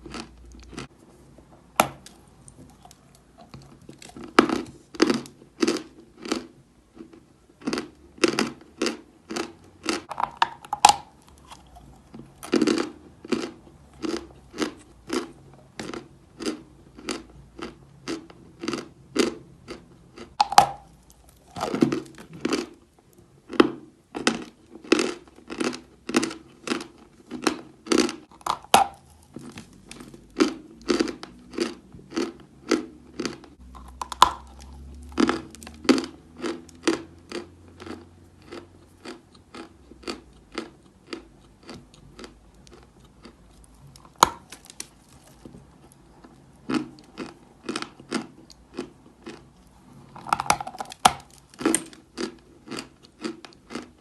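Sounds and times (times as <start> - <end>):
chalk crunching being chewed: 0.0 - 1.0, 2.0 - 22.8, 24.2 - 54.0.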